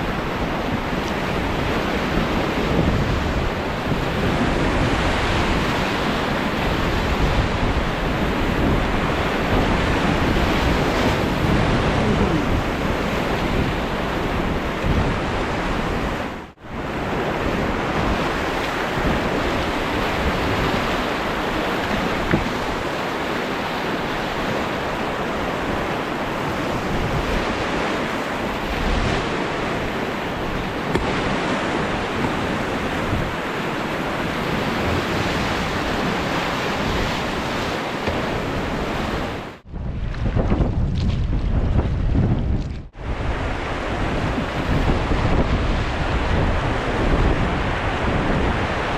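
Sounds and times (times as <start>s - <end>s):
fast-flowing river rushing: 0.0s - 39.6s
wind on the microphone: 0.0s - 48.9s.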